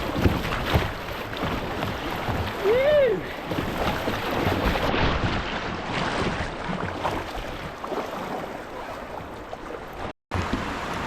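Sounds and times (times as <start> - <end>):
creek water rushing and splashing: 0.0 - 11.0.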